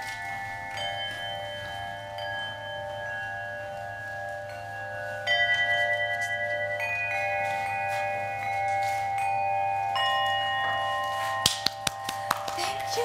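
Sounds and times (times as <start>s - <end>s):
bowl bells struck with mallet: 0.0s - 13.0s.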